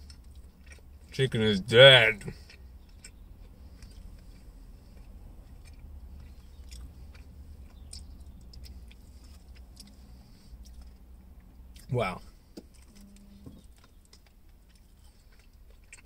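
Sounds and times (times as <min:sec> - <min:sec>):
person chewing: 0:00.0 - 0:01.2, 0:02.1 - 0:16.0
low steady hum: 0:00.0 - 0:16.0.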